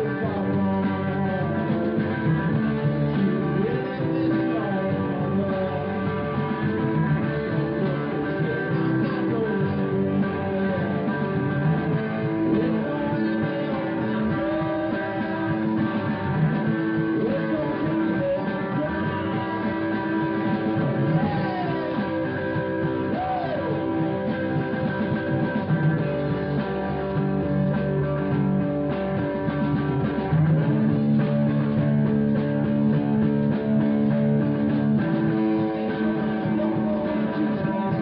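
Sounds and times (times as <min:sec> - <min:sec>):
blues-rock band playing: 0:00.0 - 0:38.0.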